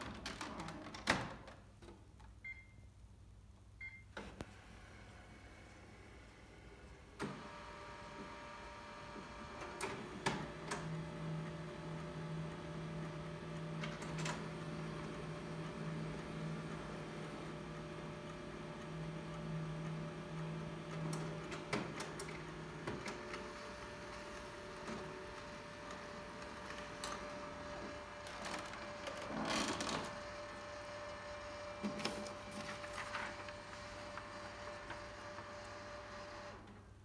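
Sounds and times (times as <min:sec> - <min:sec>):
printer motors humming: 0:04.4 - 0:36.8.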